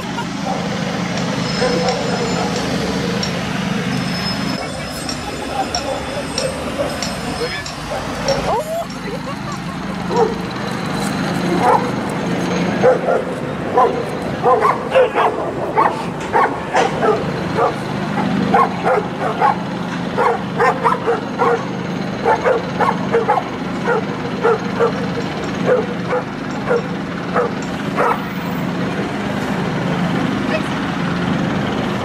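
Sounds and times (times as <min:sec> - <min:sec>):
dogs barking and yipping: 0:00.0 - 0:28.7.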